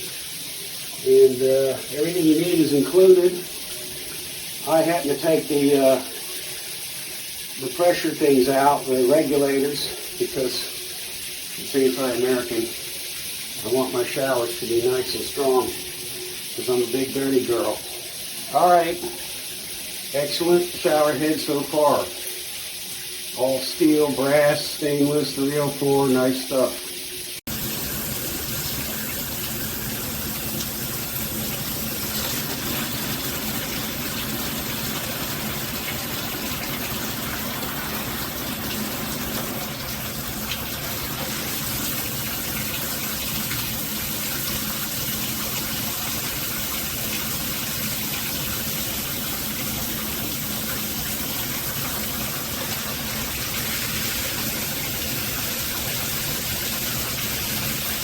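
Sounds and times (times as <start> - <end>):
shower water spraying: 0.0 - 58.0.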